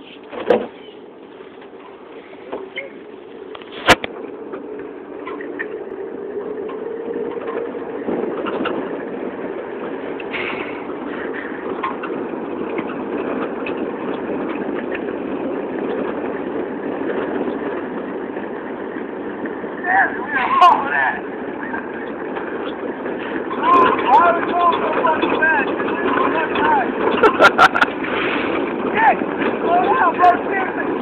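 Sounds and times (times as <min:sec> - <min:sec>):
truck engine and tyres rumbling: 0:00.0 - 0:31.0.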